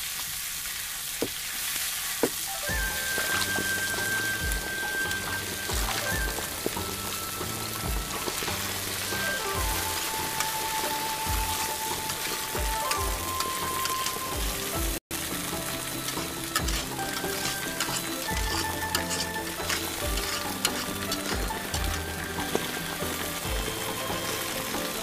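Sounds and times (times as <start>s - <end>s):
pork sizzling in hot oil: 0.0s - 25.0s
background music with low beat: 2.6s - 25.0s.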